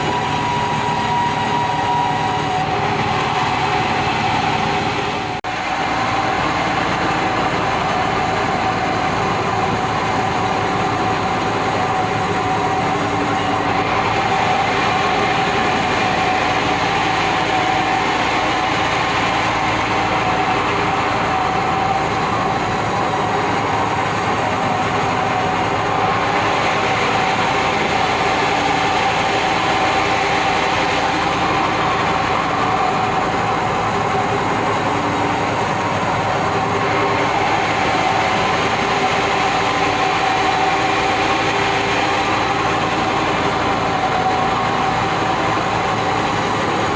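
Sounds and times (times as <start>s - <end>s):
band saw running with whine: 0.0s - 46.9s.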